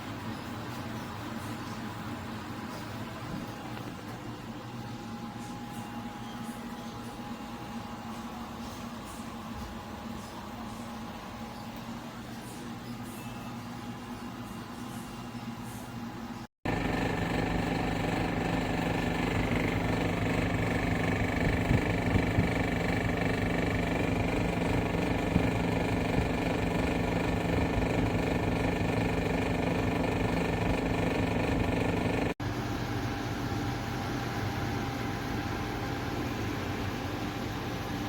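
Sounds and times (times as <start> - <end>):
air conditioner humming: 0.0 - 38.0.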